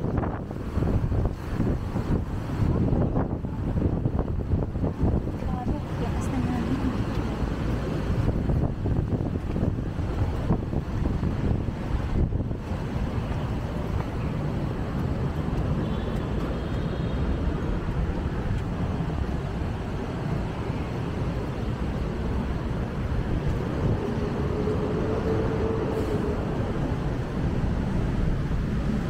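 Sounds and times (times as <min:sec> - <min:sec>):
rumble of passing traffic: 0:00.0 - 0:29.0
wind buffeting microphone: 0:00.0 - 0:29.0.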